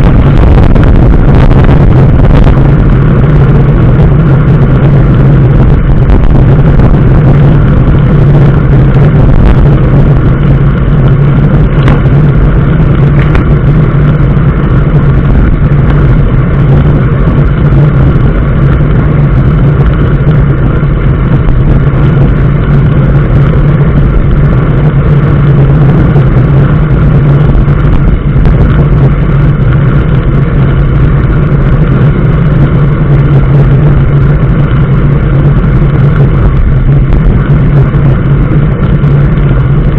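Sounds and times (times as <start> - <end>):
road and wind noise: 0.0 - 39.9
vehicle engine droning: 0.0 - 39.9.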